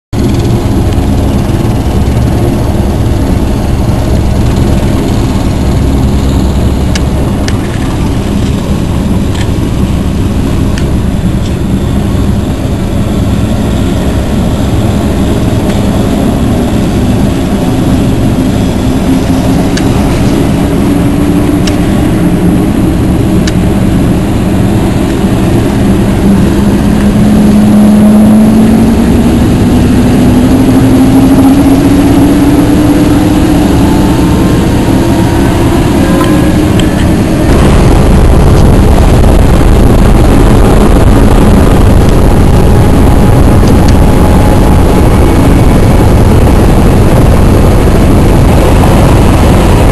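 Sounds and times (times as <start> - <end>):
helicopter engine and rotor: 0.1 - 49.9
rising turbine whine: 0.2 - 49.9.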